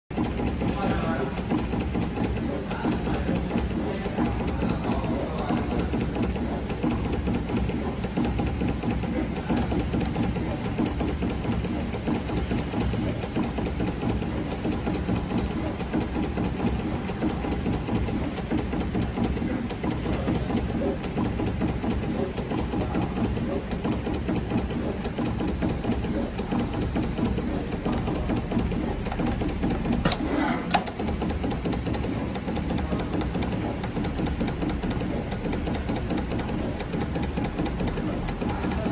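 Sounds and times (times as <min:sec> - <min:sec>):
machine motor hum: 0:00.1 - 0:38.9
rapid sharp ticks: 0:00.1 - 0:38.9.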